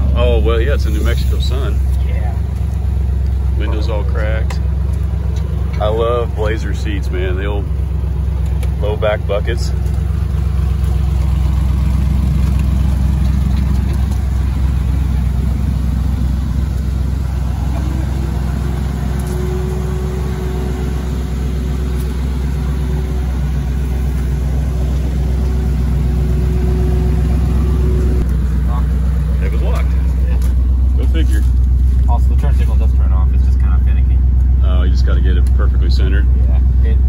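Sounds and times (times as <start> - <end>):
steady whine: 0.0 - 34.2
car engine idling: 0.0 - 37.0.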